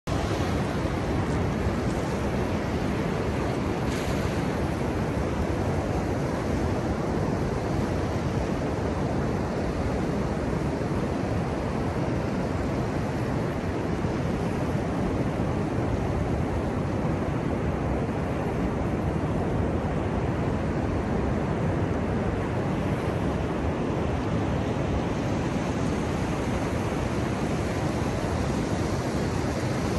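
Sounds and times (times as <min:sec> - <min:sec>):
ocean surf breaking: 0:00.1 - 0:29.9.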